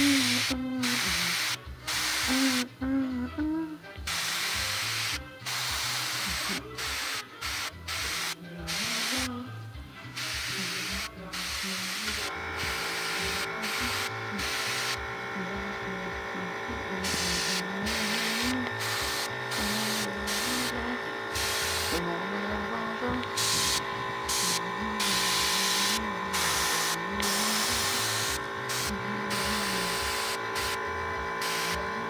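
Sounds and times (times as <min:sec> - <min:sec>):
airbrush spraying hiss: 0:00.0 - 0:02.7, 0:04.1 - 0:09.4, 0:10.1 - 0:15.0, 0:16.9 - 0:22.1, 0:23.1 - 0:30.8, 0:31.4 - 0:31.9
background music: 0:00.0 - 0:32.0.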